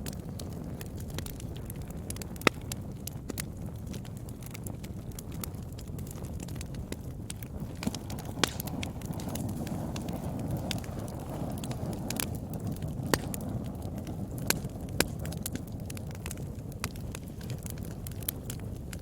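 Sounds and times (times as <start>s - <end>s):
flames rushing in fireplace: 0.0s - 19.0s
wood crackling and popping: 0.0s - 19.0s.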